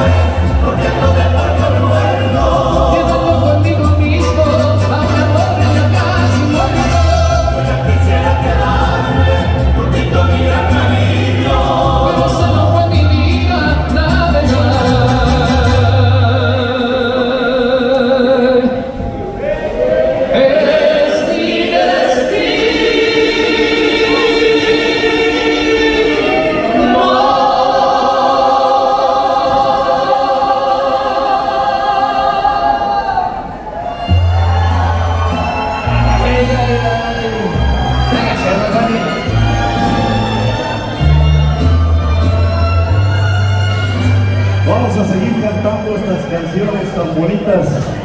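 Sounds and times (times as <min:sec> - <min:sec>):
mariachi band playing: 0:00.0 - 0:48.0.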